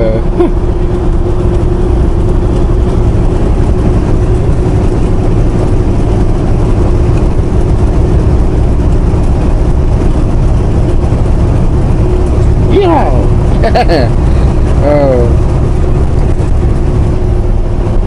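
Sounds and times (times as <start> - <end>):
steady hum: 0.0 - 18.0
truck engine and road rumble: 0.0 - 18.0.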